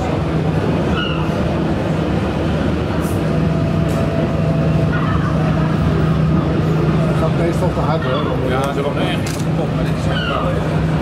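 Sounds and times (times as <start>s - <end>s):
model locomotive engine drone: 0.0s - 11.0s.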